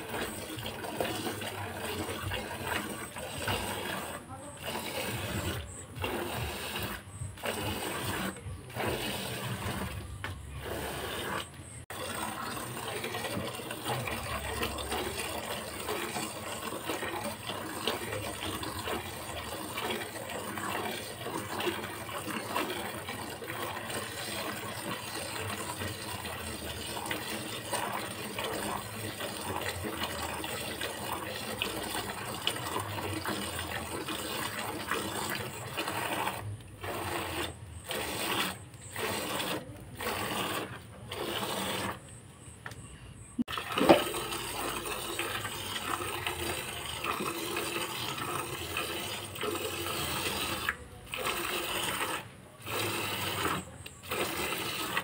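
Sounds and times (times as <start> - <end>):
milk squirting into bucket: 0.0 - 42.1, 43.5 - 55.0.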